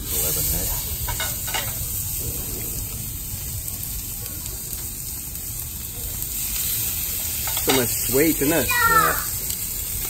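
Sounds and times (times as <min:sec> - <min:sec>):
squid sizzling on hot plate: 0:00.0 - 0:10.0.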